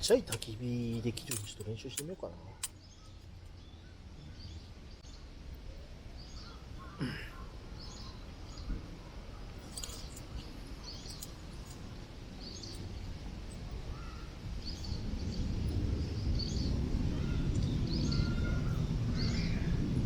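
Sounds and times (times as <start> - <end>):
birds calling: 0.0 - 5.3, 6.2 - 19.9
wind rumbling on microphone: 0.0 - 20.0.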